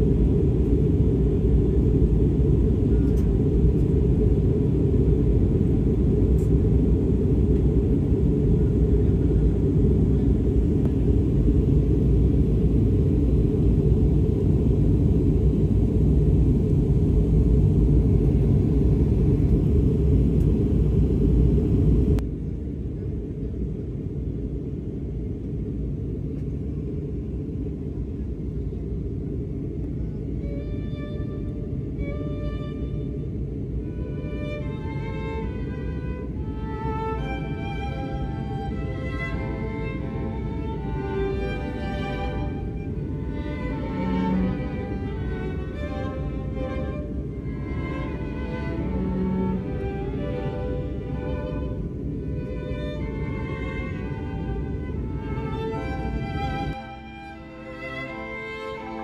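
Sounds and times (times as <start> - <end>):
jet engines and airflow rumble: 0.0 - 59.0.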